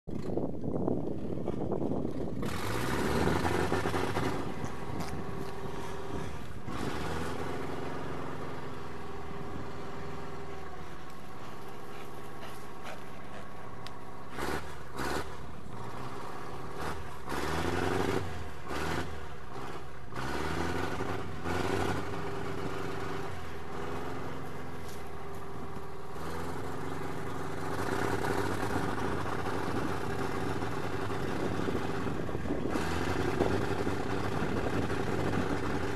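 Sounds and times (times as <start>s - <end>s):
engine running with varying pitch: 0.1s - 35.9s.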